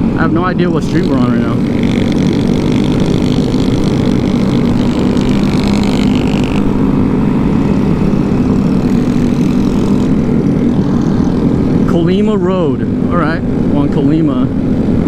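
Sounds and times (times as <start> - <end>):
motorcycle engine running: 0.0 - 13.7
high whine: 0.0 - 14.6.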